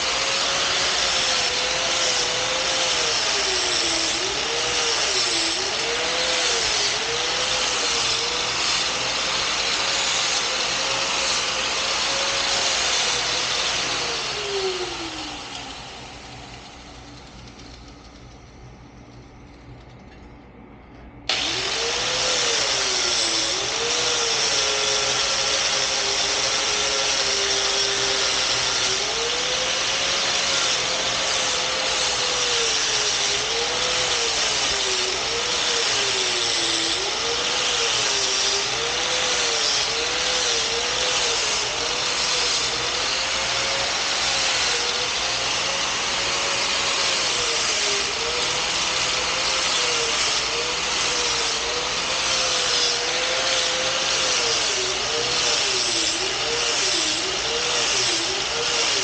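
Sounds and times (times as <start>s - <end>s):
machine running with loud hiss: 0.0s - 18.4s, 21.3s - 59.0s.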